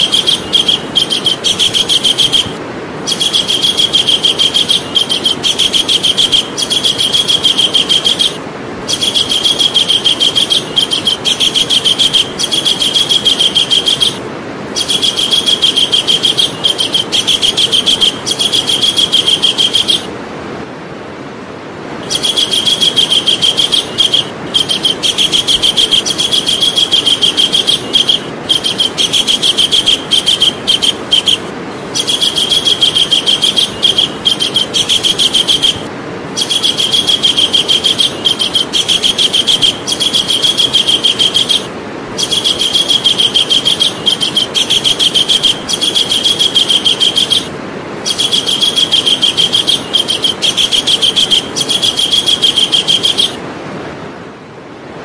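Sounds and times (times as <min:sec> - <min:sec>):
kingfisher calling: 0:00.0 - 0:20.1, 0:22.0 - 0:53.4
steady hiss: 0:00.0 - 0:54.0.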